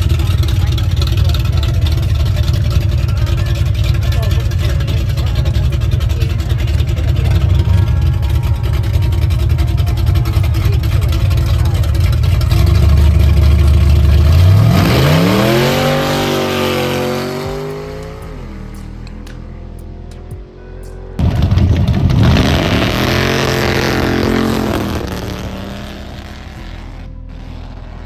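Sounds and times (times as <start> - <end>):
racing car engine revving: 0.0 - 28.0.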